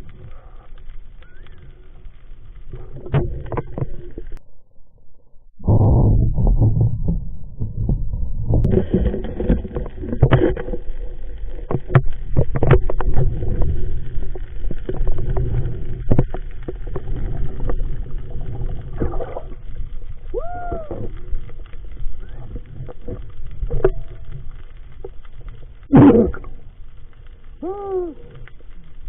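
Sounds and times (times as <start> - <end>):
underwater water rumble: 0.0 - 29.0.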